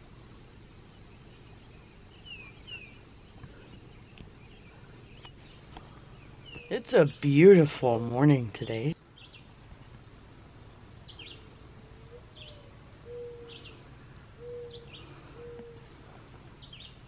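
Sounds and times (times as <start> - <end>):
low background hum: 0.0 - 17.0
bird chirping: 0.8 - 9.9, 11.0 - 17.0.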